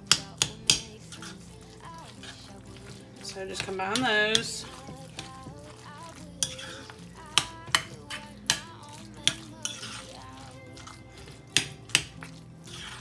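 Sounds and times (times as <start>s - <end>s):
spoon clinking against bowl: 0.0s - 1.4s, 3.6s - 13.0s
spoon stirring thick filling: 0.0s - 13.0s.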